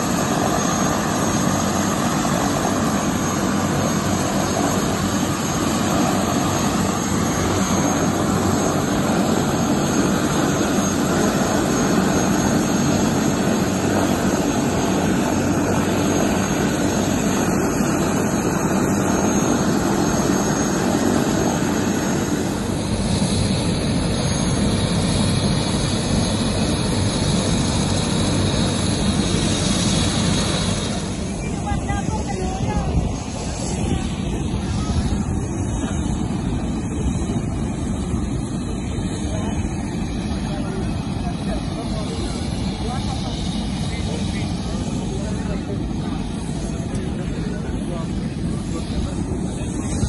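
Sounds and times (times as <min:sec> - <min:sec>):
helicopter engine and rotor: 0:00.0 - 0:50.0.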